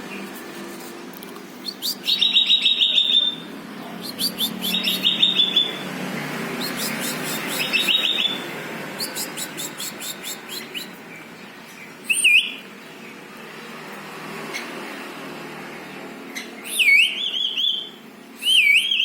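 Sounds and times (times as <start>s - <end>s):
bird chirping trills: 1.6s - 13.8s, 15.8s - 19.0s.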